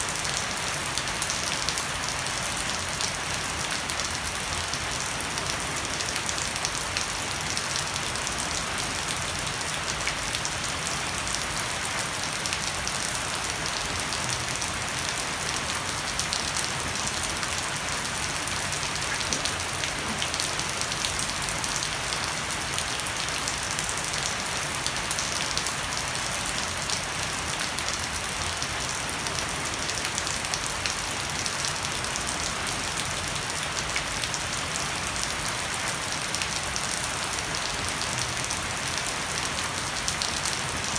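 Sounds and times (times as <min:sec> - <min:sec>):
heavy rain on wooden deck: 0:00.0 - 0:40.9.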